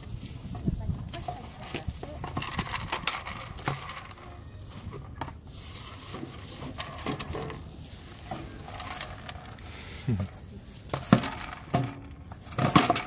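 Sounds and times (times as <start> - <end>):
plastic feeder ball rattling: 0.4 - 13.0.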